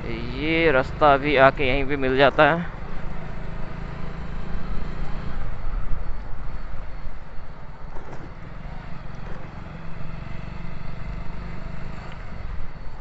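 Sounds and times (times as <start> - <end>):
motorcycle rumbling: 0.0 - 13.0.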